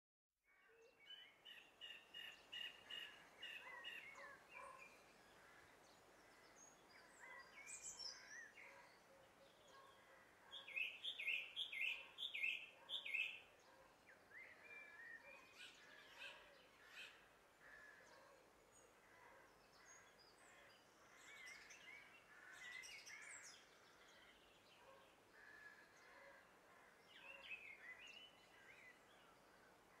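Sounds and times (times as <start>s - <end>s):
songbirds chirping: 0.6s - 30.0s.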